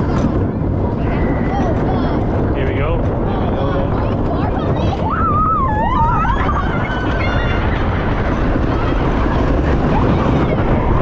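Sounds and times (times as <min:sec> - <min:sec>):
roller coaster wheels rumbling: 0:00.0 - 0:11.0
wind on the microphone: 0:00.0 - 0:11.0.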